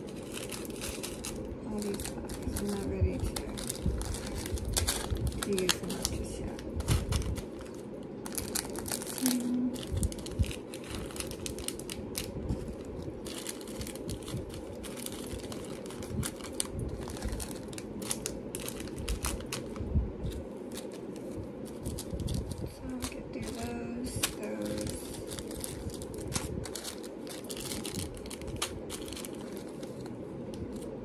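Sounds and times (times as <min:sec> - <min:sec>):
plastic bags crinkling: 0:00.0 - 0:31.0.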